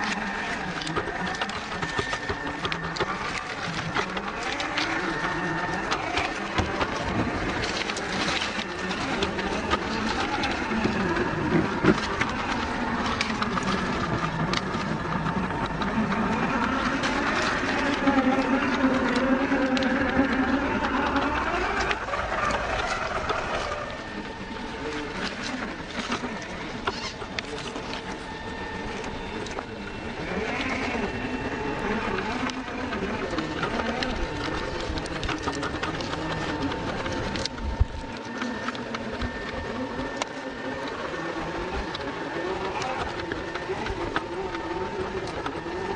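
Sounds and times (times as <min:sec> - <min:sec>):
electric motor whining: 0:00.0 - 0:45.9
stones clicking and crunching: 0:00.0 - 0:45.9.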